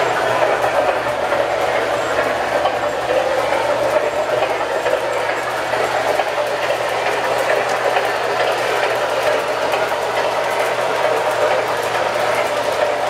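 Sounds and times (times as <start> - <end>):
clicking over rail joints: 0.0 - 13.0
model train rolling rumble: 0.0 - 13.0.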